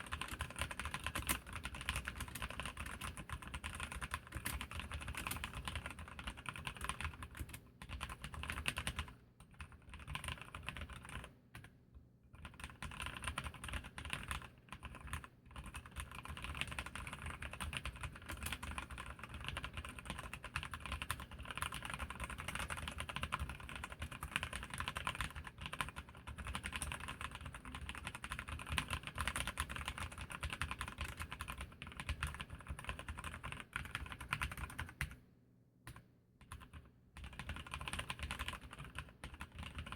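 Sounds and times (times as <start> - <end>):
fast typing on mechanical keyboard: 0.0 - 35.2, 35.9 - 39.9.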